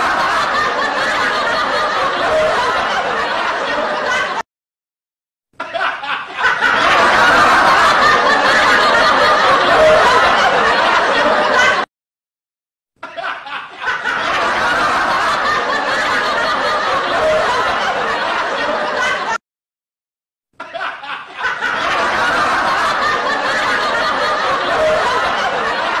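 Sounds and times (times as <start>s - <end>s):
laughter: 0.0s - 4.4s, 5.6s - 11.9s, 13.0s - 19.4s, 20.6s - 26.0s.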